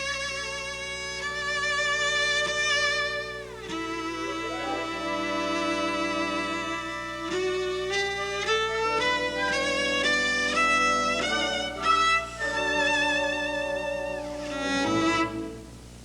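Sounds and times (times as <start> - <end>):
solo cello with vibrato: 0.0 - 15.8.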